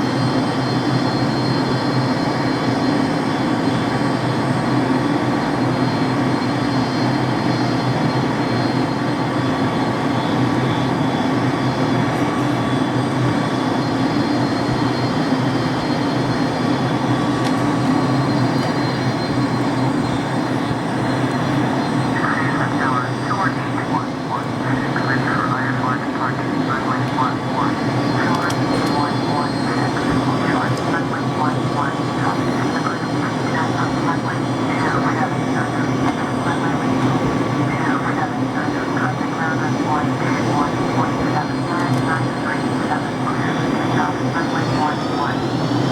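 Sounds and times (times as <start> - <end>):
jet engines roaring at takeoff: 0.0 - 45.9.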